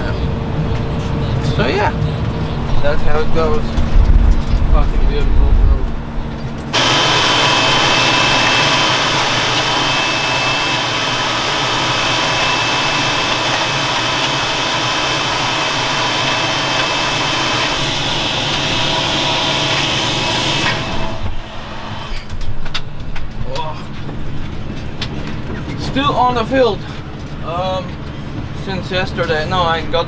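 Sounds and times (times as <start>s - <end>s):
blower fan whining: 0.0s - 30.0s
tractor engine: 0.0s - 30.0s.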